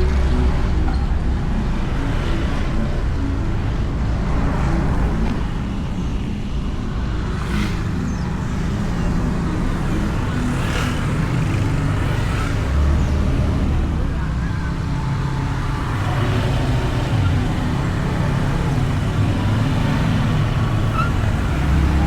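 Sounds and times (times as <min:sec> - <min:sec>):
motorbike engine and road rumble: 0:00.0 - 0:22.0.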